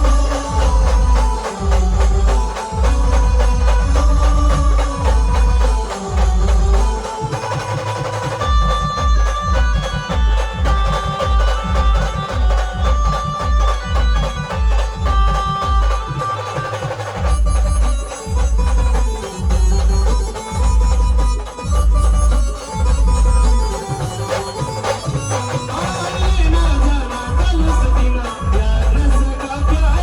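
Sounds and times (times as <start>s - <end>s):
heavy drum beats with percussion: 0.0s - 30.0s
held melody line: 0.0s - 30.0s.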